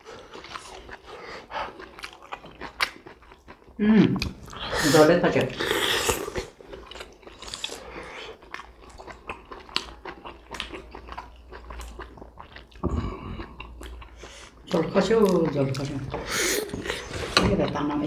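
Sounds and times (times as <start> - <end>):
chewing and lip-smacking: 0.0 - 4.7, 5.4 - 17.8.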